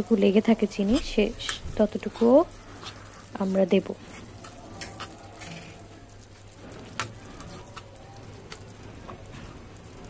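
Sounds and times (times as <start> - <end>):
oily sauce sizzling: 0.0 - 10.0.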